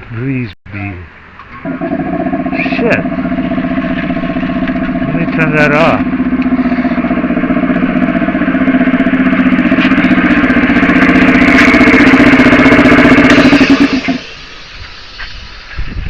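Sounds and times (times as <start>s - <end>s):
piston air compressor running: 1.6s - 15.6s.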